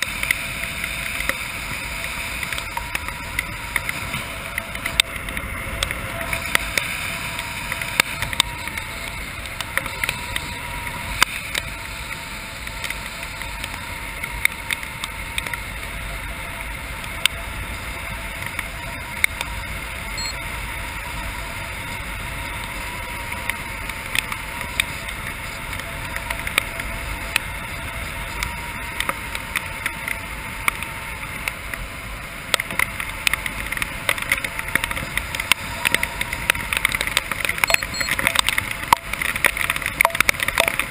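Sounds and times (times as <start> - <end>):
raindrops ticking on camera: 0.0 - 40.9.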